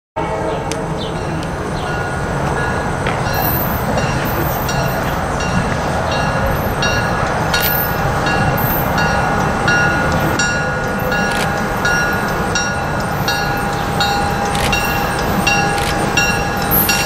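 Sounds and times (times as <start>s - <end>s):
diesel train rumble: 0.2s - 17.0s
locomotive bell ringing: 0.2s - 17.0s.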